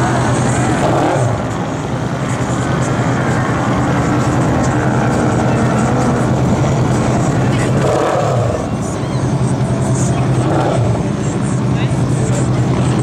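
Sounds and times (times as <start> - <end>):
off-road vehicle engines humming: 0.0 - 13.0.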